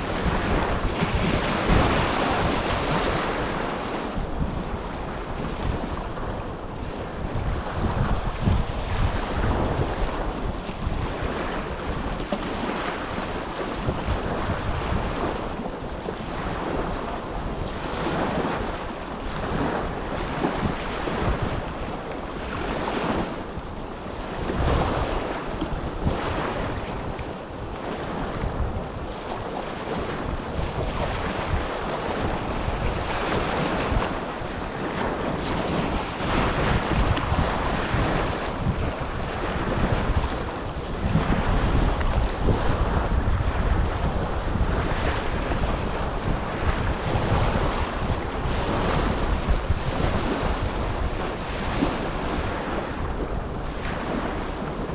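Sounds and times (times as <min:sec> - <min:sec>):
small waves breaking on shore: 0:00.0 - 0:54.9
wind buffeting microphone: 0:00.0 - 0:54.9.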